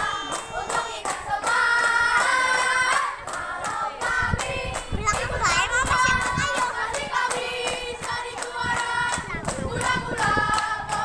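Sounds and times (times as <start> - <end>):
children singing and chanting: 0.0 - 11.0
hand claps: 0.0 - 11.0.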